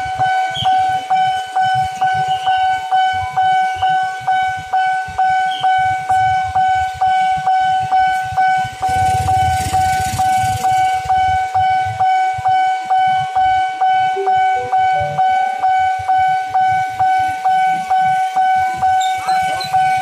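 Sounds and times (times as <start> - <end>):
level crossing warning bell: 0.0 - 20.0.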